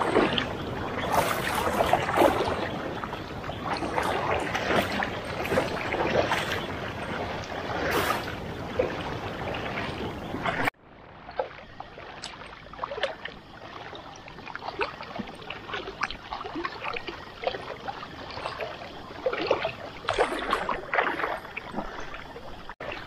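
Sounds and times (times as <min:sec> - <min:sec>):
water splashing around waders: 0:00.0 - 0:23.0.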